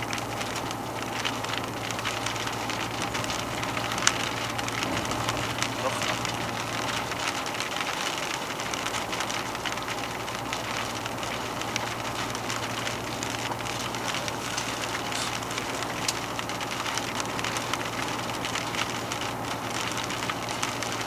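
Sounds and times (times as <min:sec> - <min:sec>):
light crackling ticks: 0:00.0 - 0:21.0
road and wind noise: 0:00.0 - 0:21.0
truck engine drone: 0:00.0 - 0:21.0.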